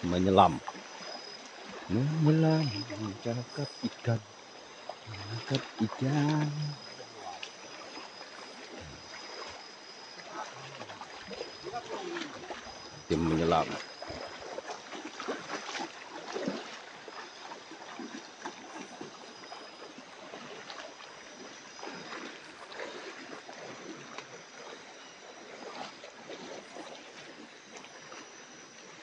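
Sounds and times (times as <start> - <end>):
water sloshing and splashing: 0.0 - 29.0.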